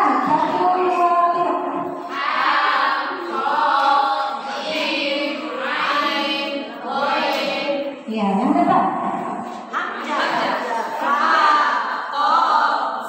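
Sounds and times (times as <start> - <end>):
women chanting in unison: 0.0 - 13.0.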